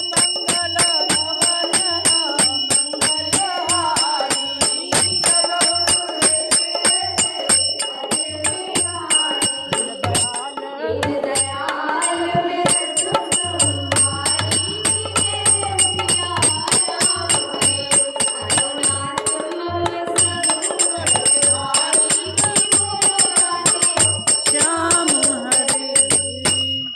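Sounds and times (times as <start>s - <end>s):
metallic bell-like percussion: 0.0s - 26.9s.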